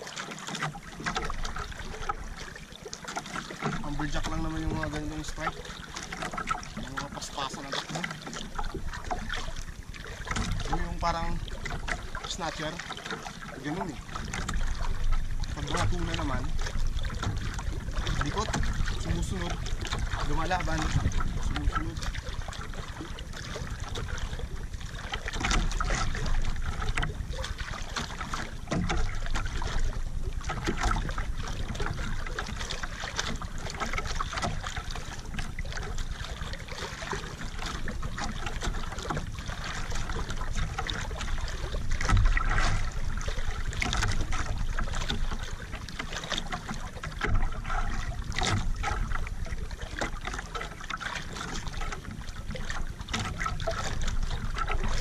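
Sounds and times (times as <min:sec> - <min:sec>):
water lapping against canoe: 0:00.0 - 0:55.0.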